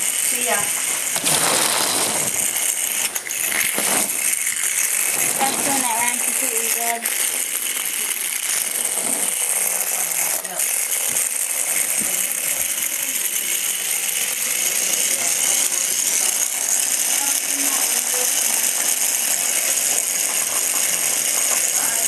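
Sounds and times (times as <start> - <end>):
toy robots buzzing and rattling: 0.0 - 22.0.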